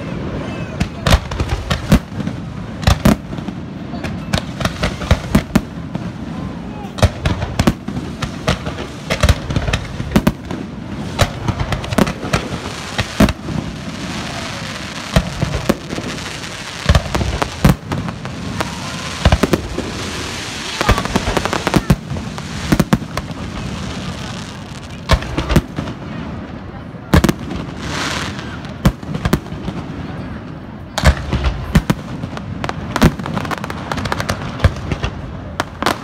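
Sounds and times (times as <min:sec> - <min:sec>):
dense firework crackling: 0:00.0 - 0:36.0.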